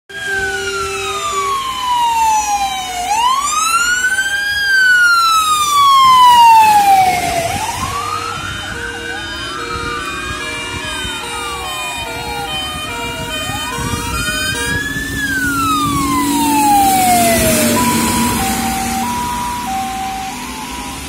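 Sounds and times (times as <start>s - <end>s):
fire engine siren wailing: 0.1s - 21.0s
second siren: 0.1s - 21.0s.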